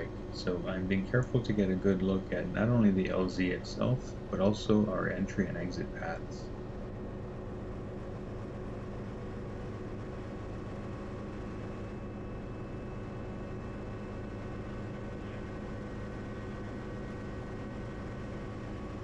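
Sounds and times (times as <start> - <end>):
helicopter engine and rotors: 0.0 - 19.0.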